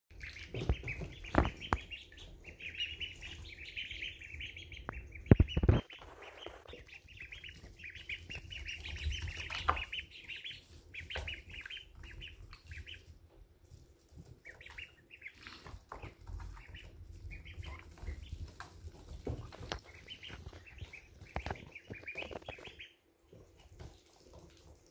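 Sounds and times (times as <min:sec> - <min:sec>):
ducklings peeping: 0:00.1 - 0:24.9.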